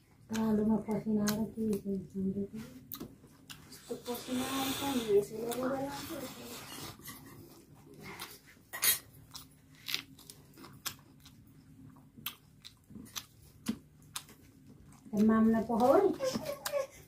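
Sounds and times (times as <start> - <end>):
person chewing food: 2.8 - 17.0.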